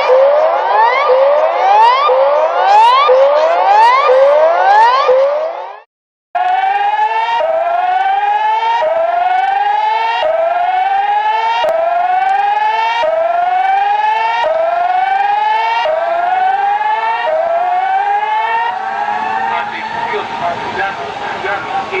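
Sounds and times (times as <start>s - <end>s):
rising emergency siren: 0.0s - 22.0s.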